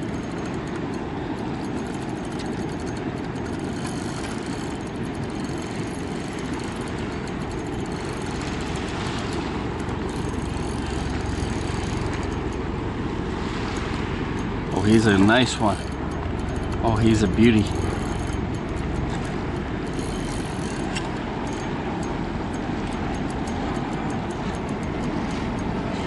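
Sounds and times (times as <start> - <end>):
fast river current rushing: 0.0 - 26.0
wind buffeting microphone: 0.0 - 26.0.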